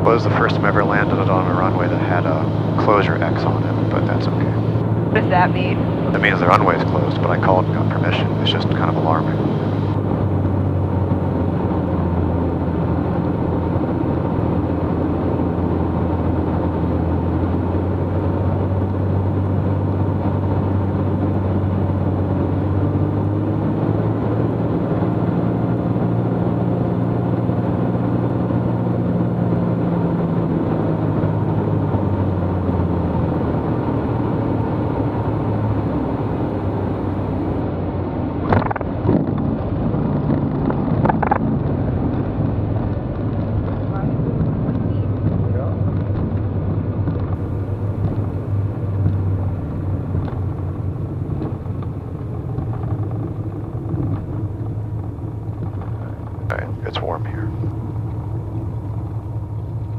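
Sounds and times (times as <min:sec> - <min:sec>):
airplane engine and propeller drone: 0:00.0 - 0:59.9.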